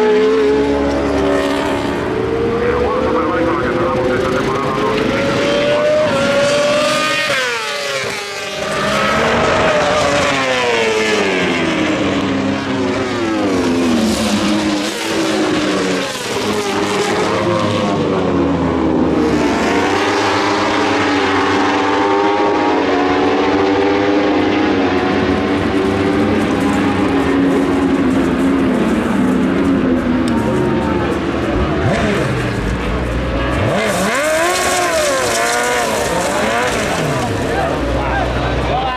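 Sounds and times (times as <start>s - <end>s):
racing motorcycles at high revs: 0.0s - 38.9s.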